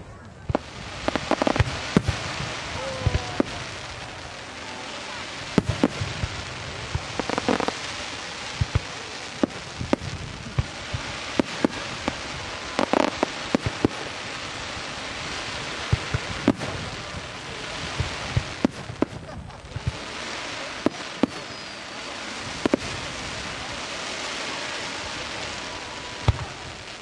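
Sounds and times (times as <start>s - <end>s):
continuous hiss: 0.0s - 27.0s.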